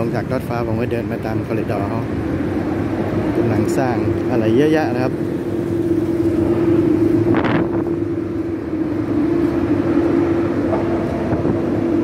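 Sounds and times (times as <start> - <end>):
droning hum: 0.0 - 12.0
road traffic: 0.0 - 12.0.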